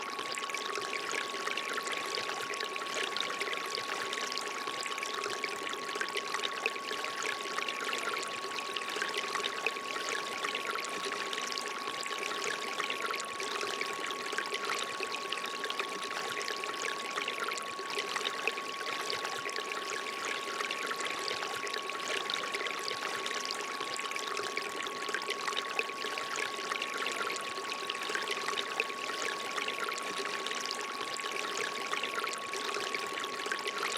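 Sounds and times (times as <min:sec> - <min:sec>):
water trickling from fountain spout: 0:00.1 - 0:33.9.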